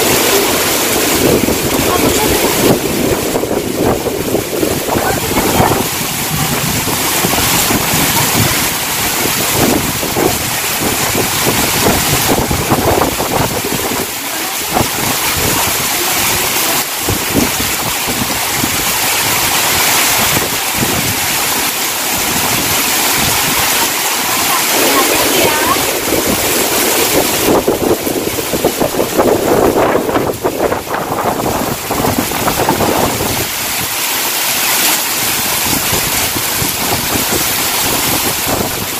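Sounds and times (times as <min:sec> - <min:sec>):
heavy rain pouring: 0:00.0 - 0:38.9
wind gusting over microphone: 0:00.0 - 0:38.9.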